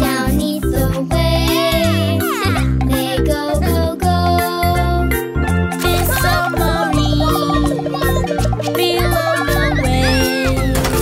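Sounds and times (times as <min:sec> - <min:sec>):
children's cartoon music: 0:00.0 - 0:11.0.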